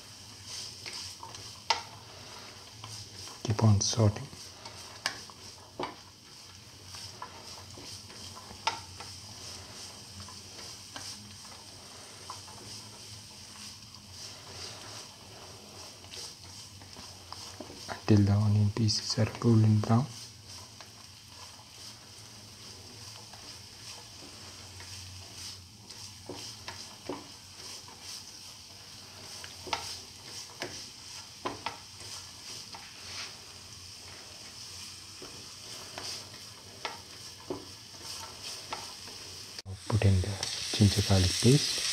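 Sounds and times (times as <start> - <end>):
onions sizzling in oil: 0.0 - 41.9
spatula scraping pan: 0.0 - 41.9.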